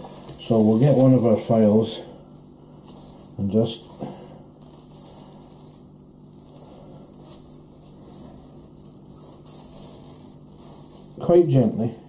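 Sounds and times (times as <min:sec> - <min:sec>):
soft handling rustles: 0:00.0 - 0:12.0.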